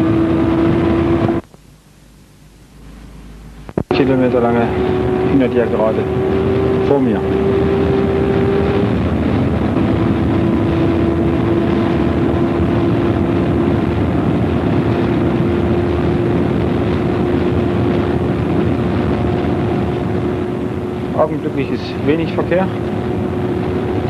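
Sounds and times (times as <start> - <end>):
racing car engine at full throttle: 0.0 - 1.5, 3.7 - 24.0
wind and road noise: 0.0 - 1.6, 3.5 - 24.0.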